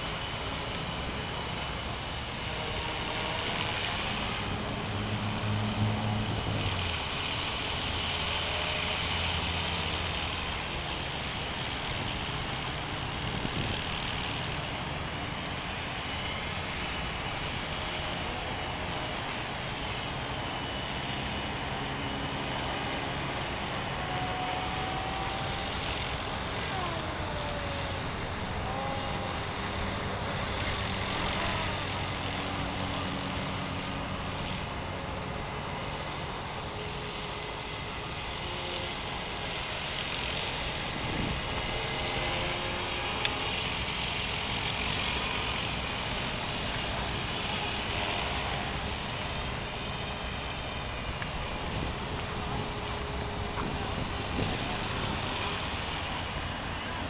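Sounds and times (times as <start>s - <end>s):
helicopter motor and rotor whine: 0.0s - 57.0s
low hum: 0.0s - 57.0s
noisy hiss: 0.0s - 57.0s.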